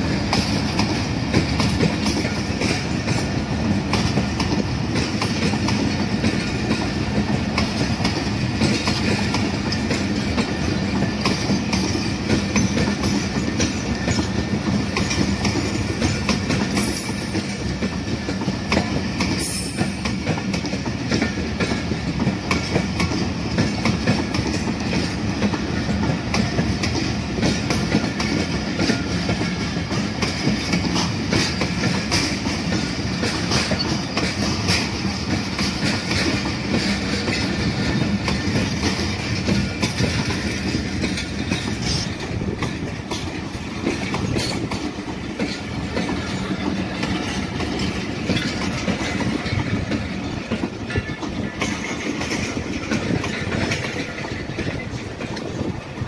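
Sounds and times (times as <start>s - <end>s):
train rumbling past: 0.0s - 56.0s
wheels clacking over rail joints: 0.0s - 56.0s.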